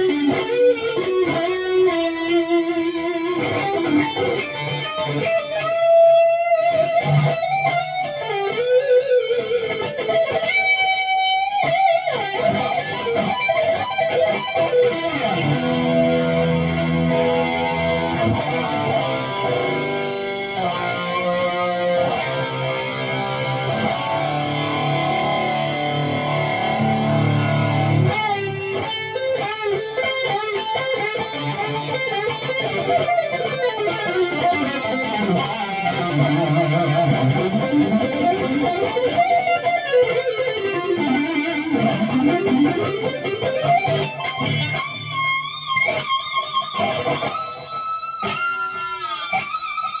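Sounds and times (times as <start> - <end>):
electric guitar shred lead: 0.0 - 50.0.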